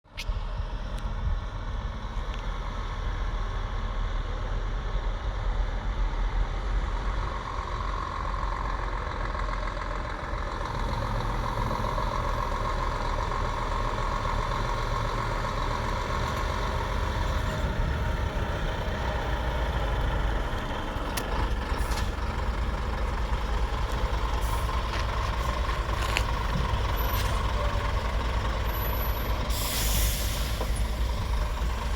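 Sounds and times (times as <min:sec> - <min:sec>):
diesel truck engine running: 0:00.3 - 0:31.9.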